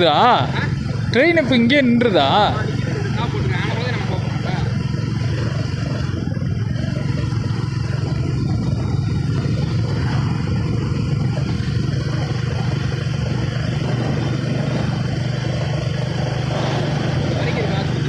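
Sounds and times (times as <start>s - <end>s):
motorcycle engine rumble: 0.0s - 18.0s
road noise: 0.0s - 18.0s
wind: 0.0s - 18.0s.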